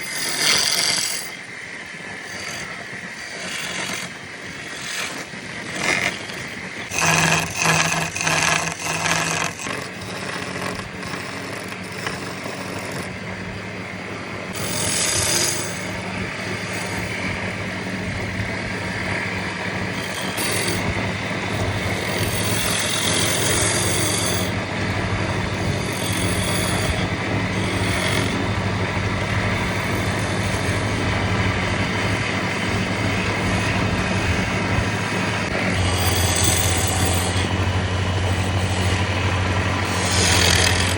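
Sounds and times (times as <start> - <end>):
loud mechanical rattling: 0.0 - 40.9
machine humming: 0.0 - 40.9.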